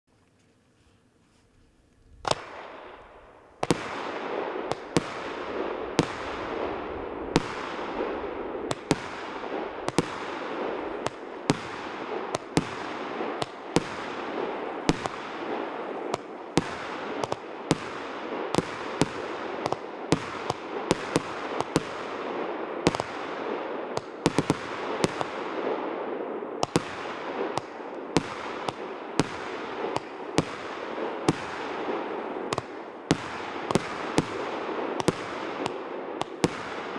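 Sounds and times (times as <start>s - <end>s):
firework crackling: 2.1s - 36.9s
sharp firework shots: 2.2s - 36.9s.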